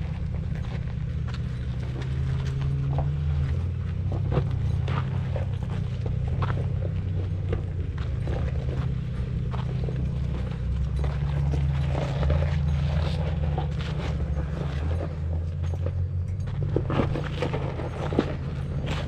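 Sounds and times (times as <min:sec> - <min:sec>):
off-road engine running low: 0:00.0 - 0:19.0
rocks crunching under tyres: 0:00.0 - 0:19.0.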